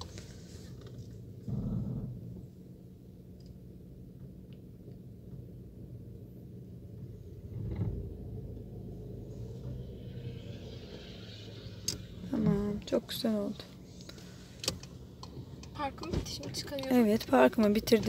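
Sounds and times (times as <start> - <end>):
car engine humming: 0.0 - 18.0.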